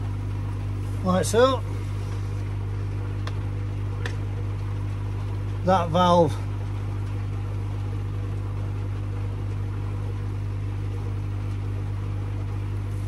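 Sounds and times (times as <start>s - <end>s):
pond filter electrical hum: 0.0s - 13.0s.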